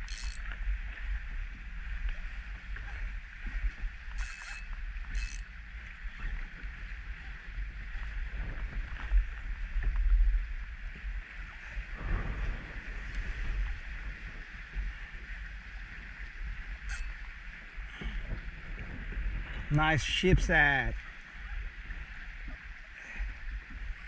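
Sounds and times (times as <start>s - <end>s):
small waves lapping against hull: 0.0s - 24.0s
wind buffeting microphone: 0.0s - 24.0s.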